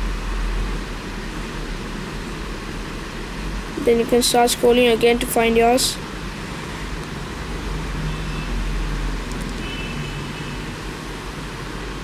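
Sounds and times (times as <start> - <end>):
room noise hum and hiss: 0.0 - 12.0.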